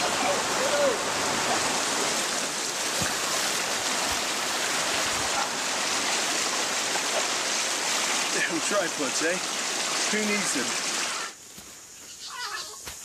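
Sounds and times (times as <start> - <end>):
river rushing: 0.0 - 11.4.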